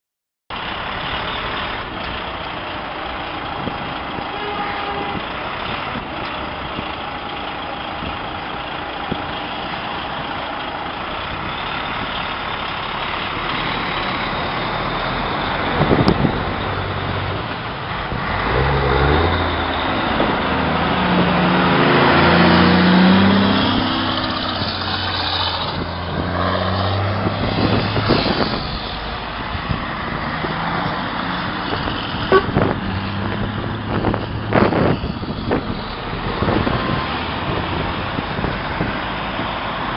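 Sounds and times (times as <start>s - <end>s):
diesel lorries running: 0.5s - 39.9s
road traffic noise: 0.5s - 39.9s
truck engine low note: 0.6s - 39.9s.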